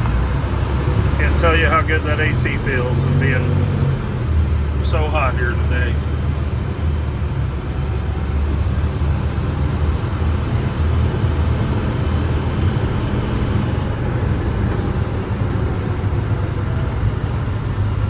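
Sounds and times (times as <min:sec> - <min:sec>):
air conditioning blowing: 0:00.0 - 0:18.0
road noise: 0:00.0 - 0:18.0
truck engine drone: 0:00.0 - 0:18.0.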